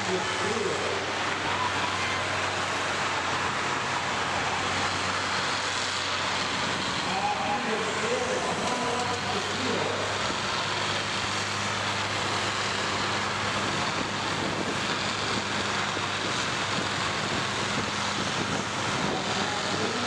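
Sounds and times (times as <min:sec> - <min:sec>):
harvester engines droning: 0:00.0 - 0:20.0.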